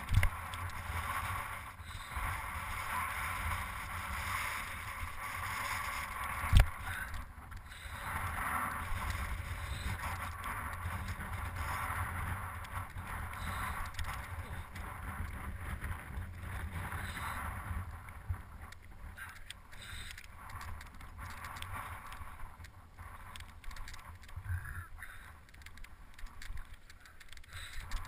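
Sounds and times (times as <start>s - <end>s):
wind on microphone: 0.0s - 24.9s
bike tyres rolling on gravel: 0.0s - 28.0s.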